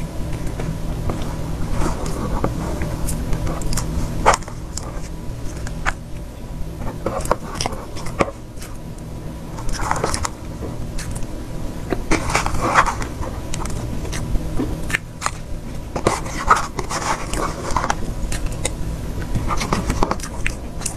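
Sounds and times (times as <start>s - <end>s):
chewing cake: 0.0s - 20.9s.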